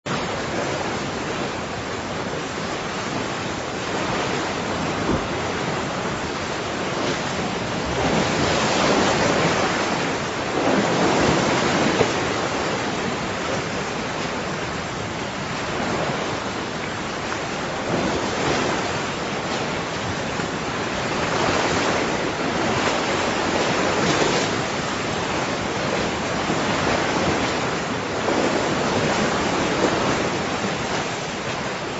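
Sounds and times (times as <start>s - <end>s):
ocean surf breaking: 0.1s - 31.9s.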